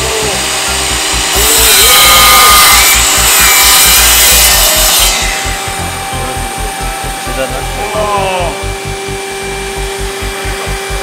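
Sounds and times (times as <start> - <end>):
miter saw cutting wood: 0.0 - 11.0.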